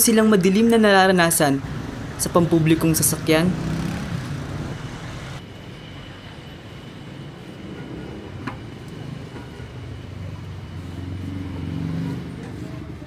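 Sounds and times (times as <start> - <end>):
vehicle engine and road rumble: 1.3 - 13.0.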